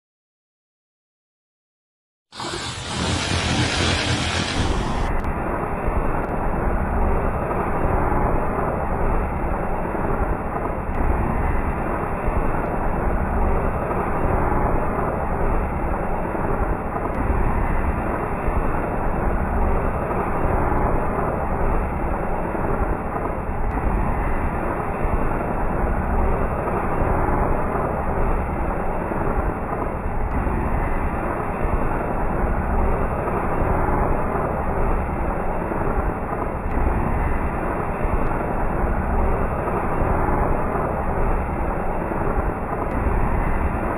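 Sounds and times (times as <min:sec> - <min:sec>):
firework fountain spraying sparks: 0:02.4 - 0:43.9.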